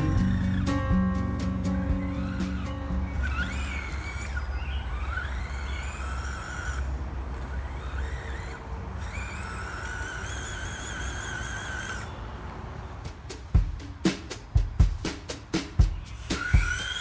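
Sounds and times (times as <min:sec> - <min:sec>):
electric motor whining: 0:00.0 - 0:13.0, 0:15.9 - 0:17.0.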